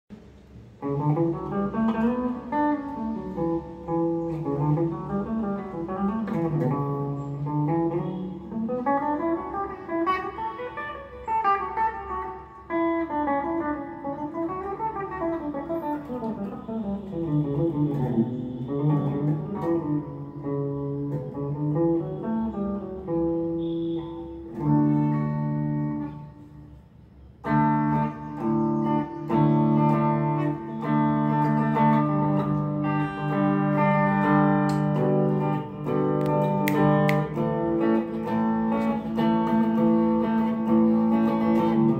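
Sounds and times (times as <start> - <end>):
electric guitar playing: 0.1 - 41.9.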